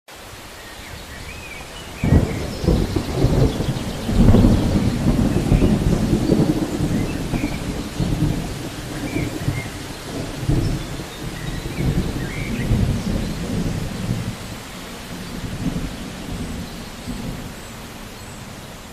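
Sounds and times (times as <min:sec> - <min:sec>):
steady rain: 0:00.1 - 0:18.9
thunder rumbling: 0:01.0 - 0:18.9.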